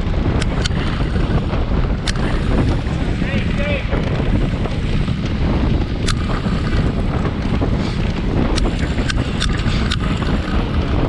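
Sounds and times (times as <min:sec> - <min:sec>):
wind buffeting microphone: 0:00.0 - 0:11.0
sharp clicks: 0:00.2 - 0:04.2, 0:05.1 - 0:10.7.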